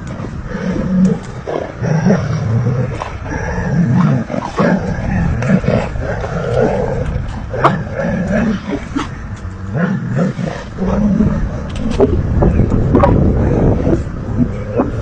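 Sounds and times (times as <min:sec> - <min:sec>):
dog and wolves growling: 0:00.0 - 0:15.0.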